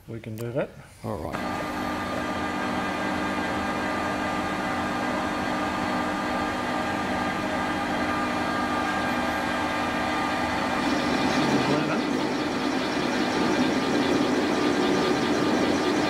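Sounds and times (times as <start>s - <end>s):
lathe humming and whining: 1.4s - 16.0s.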